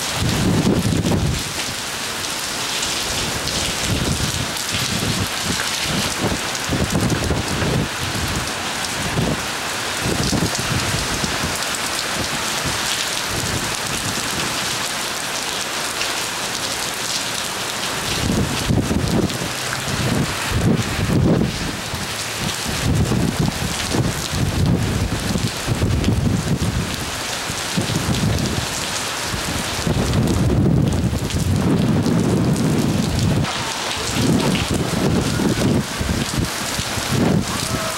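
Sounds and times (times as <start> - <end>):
wind gusts on microphone: 0.0 - 1.8, 3.1 - 14.6, 18.1 - 37.9
heavy rain pouring: 0.0 - 37.9.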